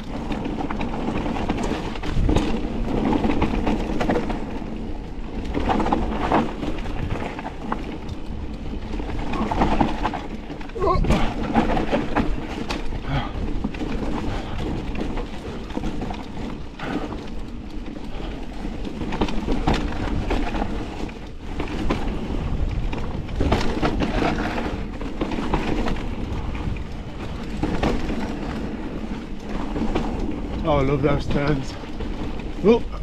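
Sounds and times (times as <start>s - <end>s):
bike tyres rolling on dirt: 0.0s - 33.0s
knocks and clatters over bumps: 0.0s - 33.0s.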